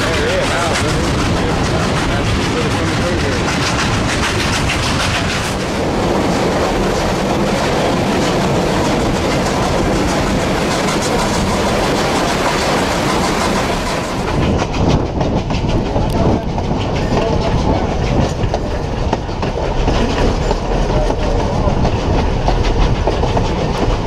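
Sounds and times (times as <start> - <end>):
steam train rumbling and rattling: 0.0 - 24.0.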